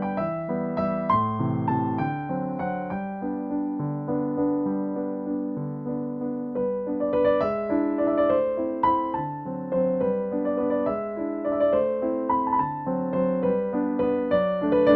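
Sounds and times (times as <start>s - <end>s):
soft electric piano music: 0.0s - 14.9s.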